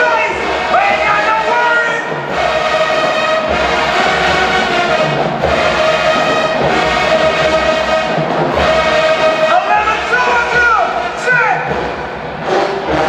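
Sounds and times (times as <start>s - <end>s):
brass section playing chords: 0.0s - 13.0s.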